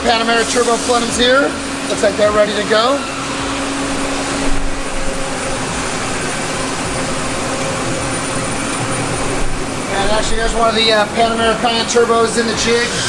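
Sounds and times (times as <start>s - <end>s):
faint steady hum: 0.0s - 12.6s
machining centers running: 0.0s - 13.0s.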